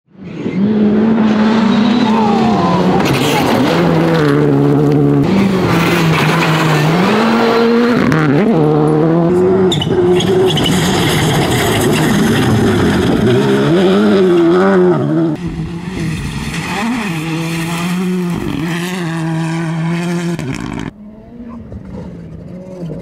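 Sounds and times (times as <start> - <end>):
rally car engines at full throttle: 0.1 - 23.0.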